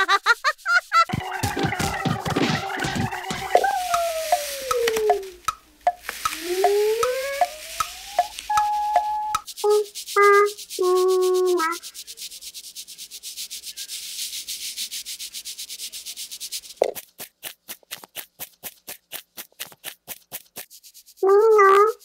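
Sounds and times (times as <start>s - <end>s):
scratchy rubbing strokes: 0.2s - 5.4s, 6.0s - 22.0s.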